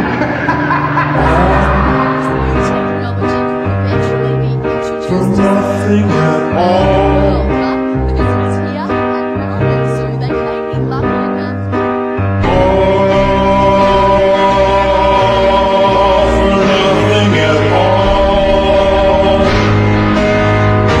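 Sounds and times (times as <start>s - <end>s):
music with singing: 0.0s - 21.0s.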